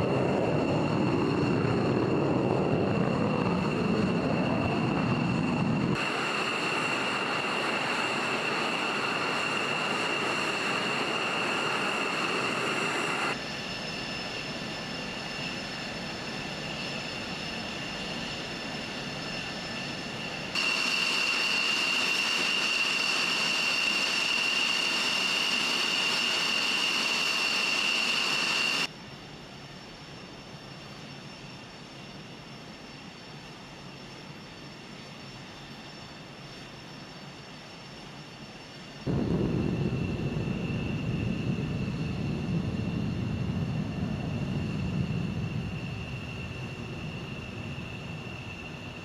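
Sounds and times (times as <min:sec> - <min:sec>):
jet engine turbine whine: 0:00.0 - 0:49.0.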